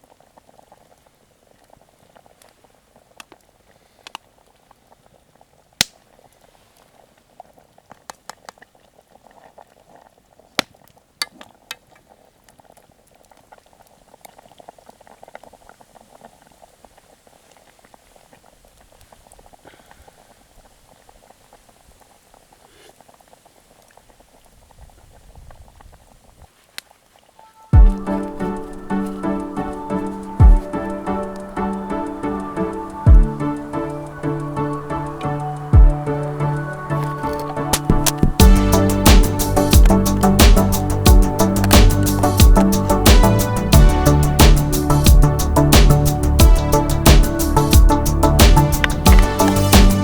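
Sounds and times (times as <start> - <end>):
campfire cracking: 0.0 - 50.0
pot of liquid boiling: 0.0 - 50.0.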